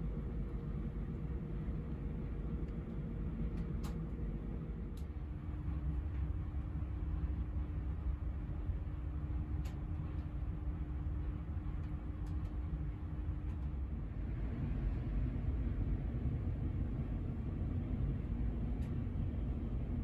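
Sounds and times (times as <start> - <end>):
faint steady hum: 0.0 - 20.0
stationary train rumble: 0.0 - 20.0.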